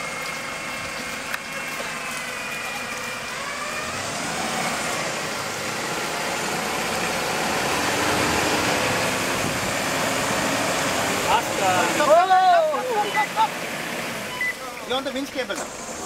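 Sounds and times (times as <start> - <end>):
pickup engines revving under load: 0.0 - 16.0.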